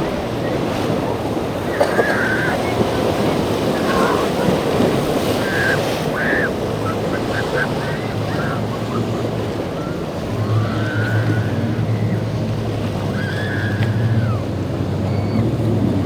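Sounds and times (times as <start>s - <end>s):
motorboat engine running: 0.0s - 16.0s
waves: 0.0s - 16.0s.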